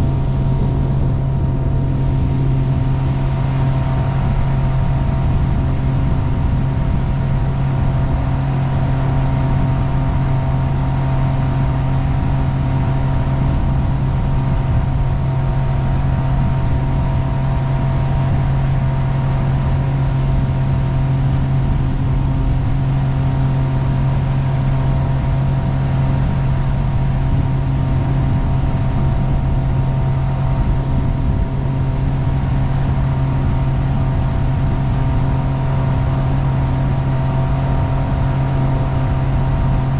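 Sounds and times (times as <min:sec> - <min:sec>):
boat engine drone: 0:00.0 - 0:39.9.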